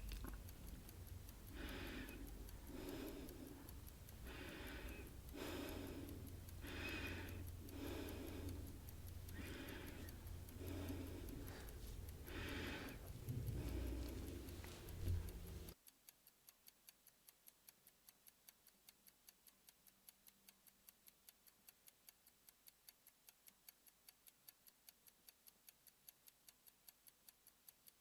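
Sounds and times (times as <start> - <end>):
clock ticking: 0.0 - 28.0.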